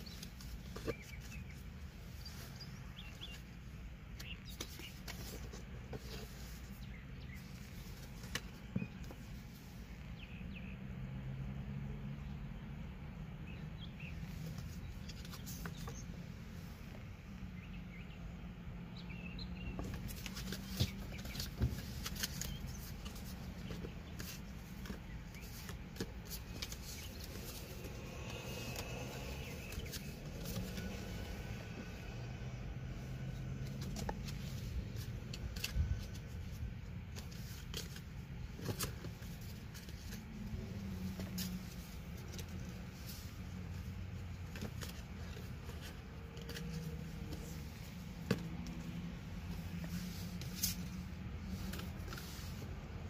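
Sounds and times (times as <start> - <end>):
handling clicks and rustles: 0.0 - 10.3, 14.0 - 17.4, 19.6 - 53.0.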